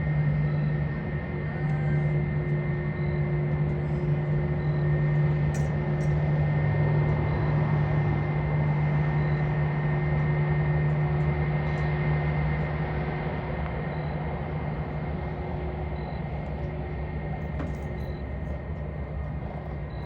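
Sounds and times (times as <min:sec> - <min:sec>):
jet engines humming: 0:00.0 - 0:20.0.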